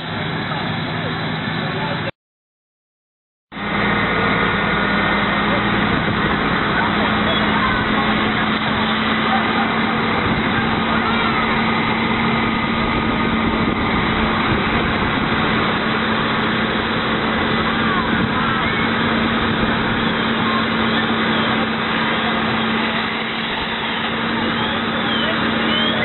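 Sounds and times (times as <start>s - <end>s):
fire engine pump running: 0.0s - 2.1s, 3.5s - 26.0s.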